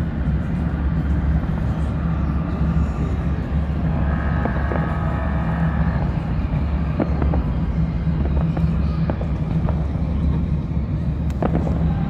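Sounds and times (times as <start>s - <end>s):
faint firework crackles: 0.0s - 12.0s
low engine rumble: 0.0s - 12.0s.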